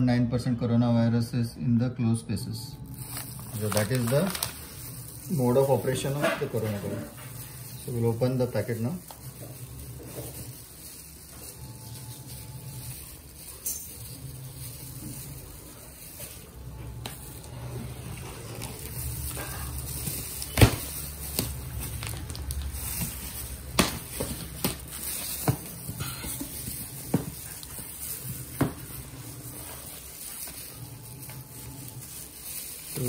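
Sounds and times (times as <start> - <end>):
plastic crinkling: 2.8 - 33.0.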